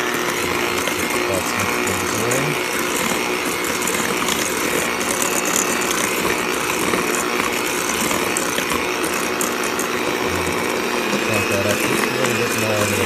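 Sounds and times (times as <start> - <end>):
electric hand mixer whipping batter: 0.0 - 13.0.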